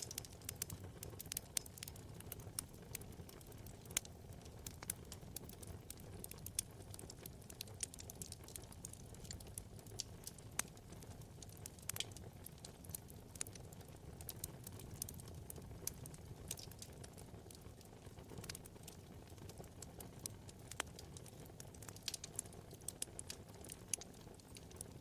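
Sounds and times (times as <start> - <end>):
low rumble of flame: 0.0 - 25.0
wood crackling and popping: 0.0 - 25.0.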